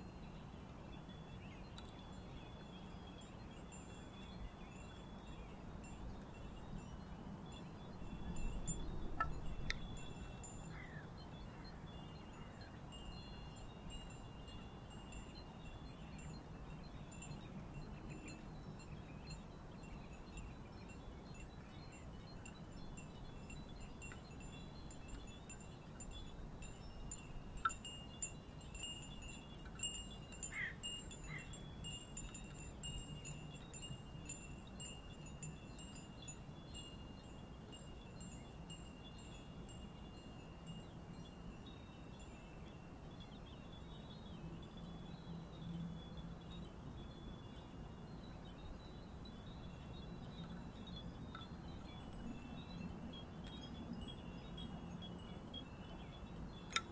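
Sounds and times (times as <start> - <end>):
wind bells tinkling: 0.0 - 56.9.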